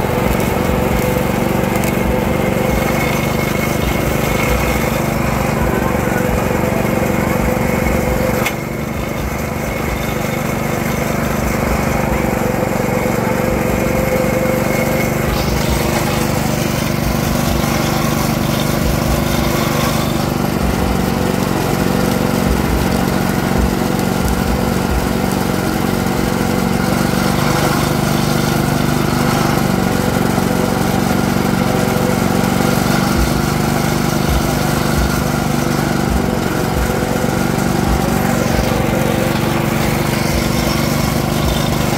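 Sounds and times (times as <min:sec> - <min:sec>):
juice press motor humming: 0:00.0 - 0:41.9
sugarcane crushed between rollers: 0:00.0 - 0:41.9.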